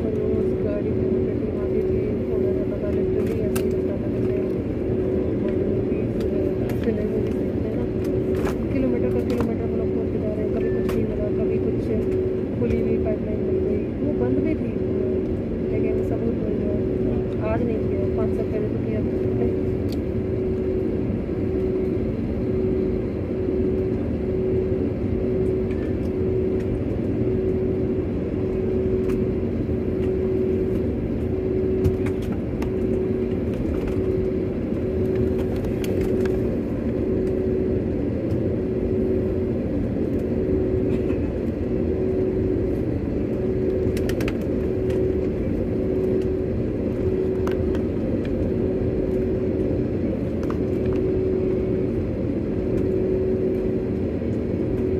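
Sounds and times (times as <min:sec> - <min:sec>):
constant cabin hum: 0:00.0 - 0:54.9
jet engine rumble: 0:00.0 - 0:54.9.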